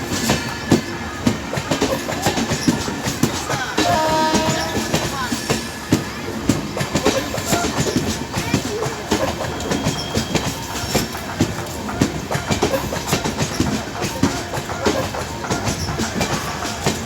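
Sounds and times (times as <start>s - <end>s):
train rumble: 0.0s - 17.0s
train wheels clattering: 0.0s - 17.0s.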